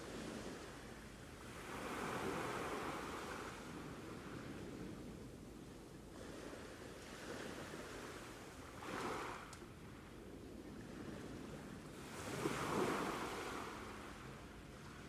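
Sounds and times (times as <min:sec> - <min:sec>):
sea waves breaking: 0:00.0 - 0:05.0, 0:06.1 - 0:09.5, 0:10.7 - 0:15.0.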